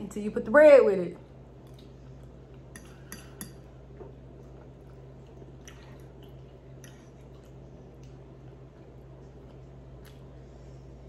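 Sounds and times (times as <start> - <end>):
steady low hum: 0.0 - 11.0
person chewing food: 1.6 - 11.0.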